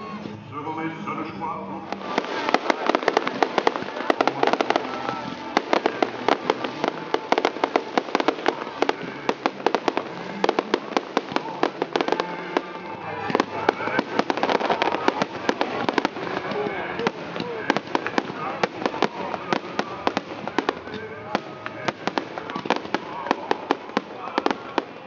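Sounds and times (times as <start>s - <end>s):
fireworks cracking and popping: 1.8s - 25.0s.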